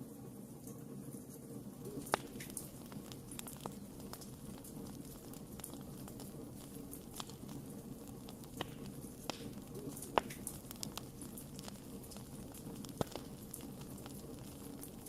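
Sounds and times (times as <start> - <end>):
low rumble of flames: 0.0 - 15.0
campfire pops and crackles: 1.4 - 15.0.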